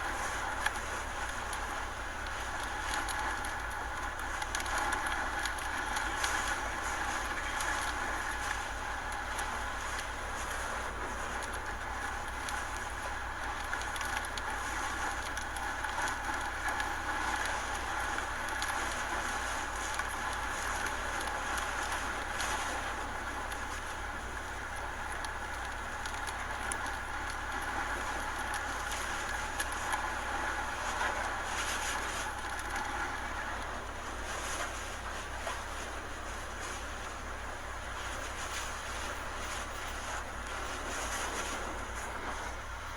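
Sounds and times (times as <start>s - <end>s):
faint crackles: 0.0s - 42.9s
hurricane wind: 0.0s - 42.9s
rain: 0.0s - 42.9s.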